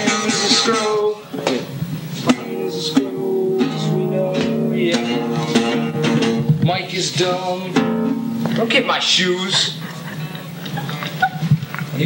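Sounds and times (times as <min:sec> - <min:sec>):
guitar picking: 0:00.0 - 0:10.5.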